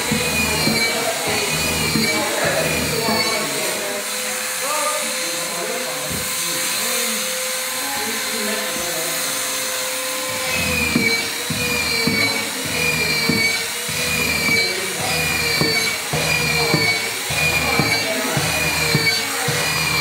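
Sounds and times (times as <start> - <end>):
power tool whining on wood: 0.0 - 20.0.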